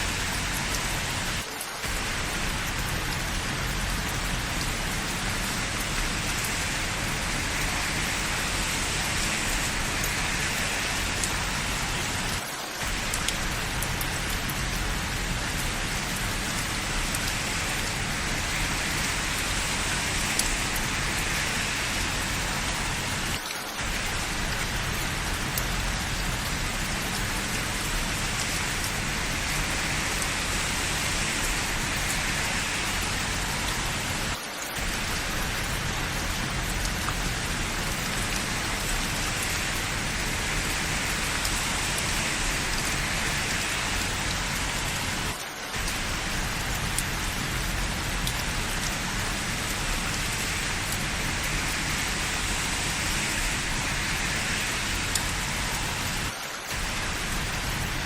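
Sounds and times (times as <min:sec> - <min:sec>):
raindrop ticks: 0:00.0 - 0:58.0
steady rain hiss: 0:00.0 - 0:58.0.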